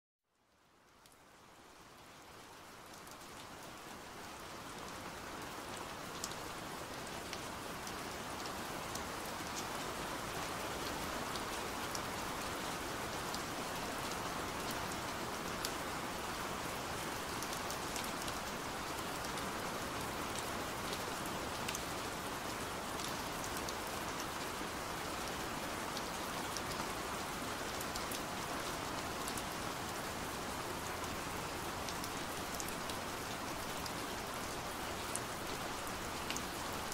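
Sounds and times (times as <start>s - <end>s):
rain on a window pane: 0.3s - 36.9s.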